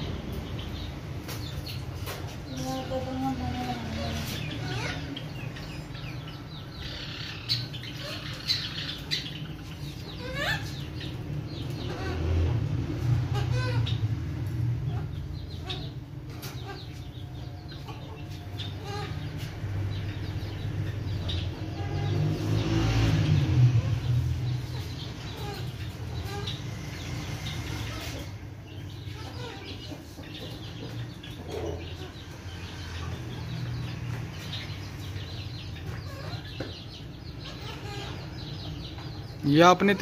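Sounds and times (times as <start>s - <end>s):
hens clucking: 0.0s - 22.4s, 24.1s - 40.0s.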